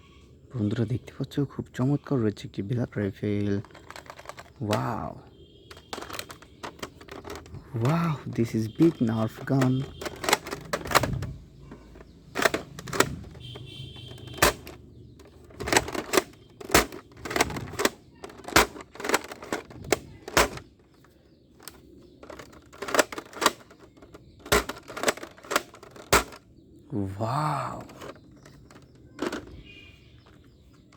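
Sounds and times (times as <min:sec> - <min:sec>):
plastic toy gun clicks and knocks: 0:03.3 - 0:26.5, 0:27.8 - 0:30.9.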